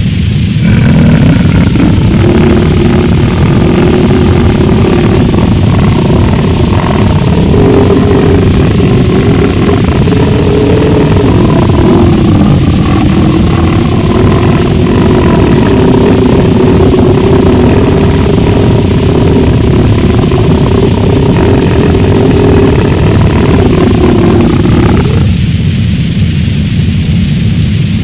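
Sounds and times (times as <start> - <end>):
distorted noise music: 0.0 - 28.0
drone-like tone: 0.0 - 28.0
low rumble: 0.0 - 28.0.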